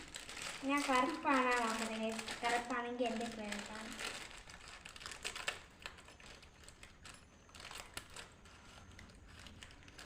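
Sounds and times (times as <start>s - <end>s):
plastic sweets packet crinkling: 0.0s - 10.0s.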